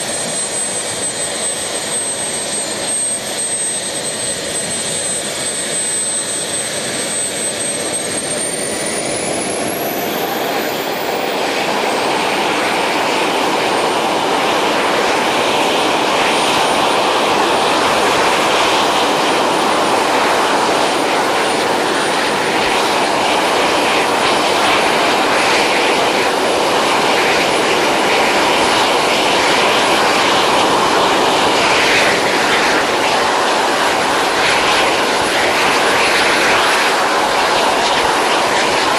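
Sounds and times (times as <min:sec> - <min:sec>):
jet turbine whine: 0:00.0 - 0:38.9.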